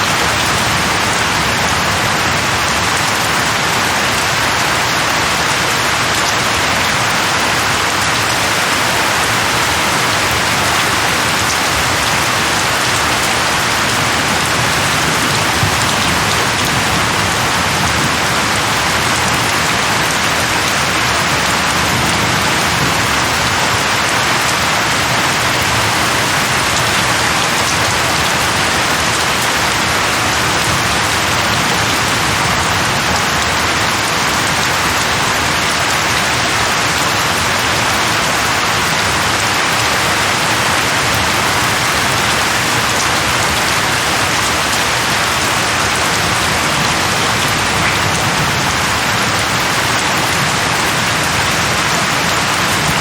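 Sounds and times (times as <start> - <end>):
rain hissing on a surface: 0.0 - 53.0.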